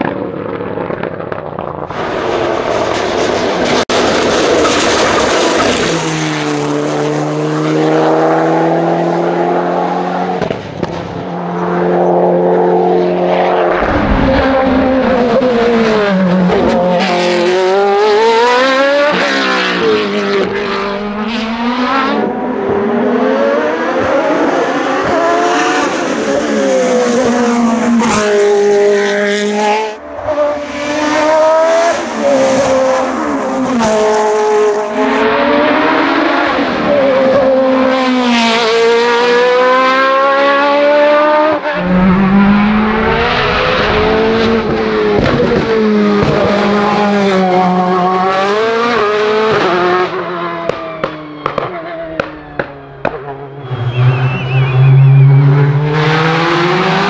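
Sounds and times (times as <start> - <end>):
race car engines at full throttle: 0.0 - 57.0.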